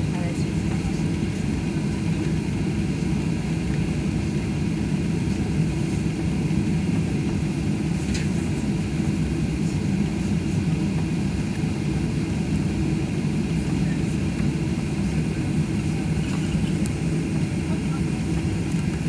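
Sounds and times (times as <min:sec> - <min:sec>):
aircraft cabin rumble and hum: 0:00.0 - 0:19.0.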